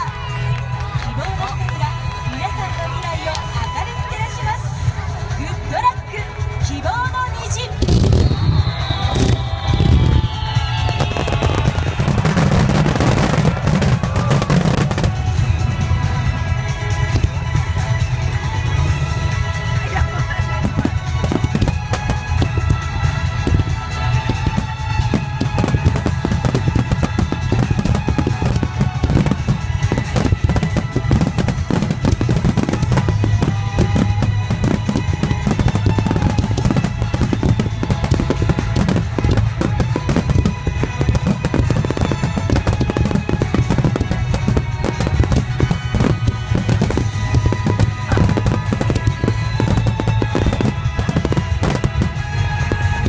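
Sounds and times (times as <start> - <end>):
fireworks bursting and crackling: 0.0 - 53.0
music playing: 0.0 - 53.0.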